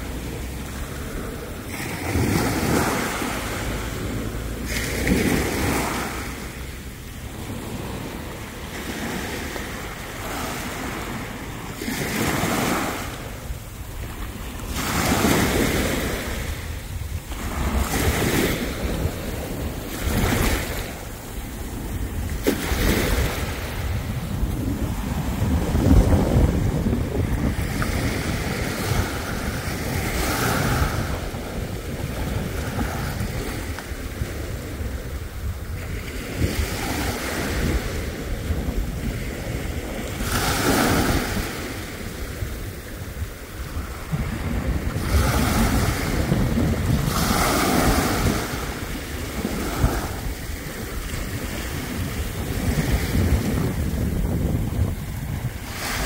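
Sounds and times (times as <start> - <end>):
waves washing over sand: 0.0 - 56.0
wind rumble on microphone: 0.0 - 56.0.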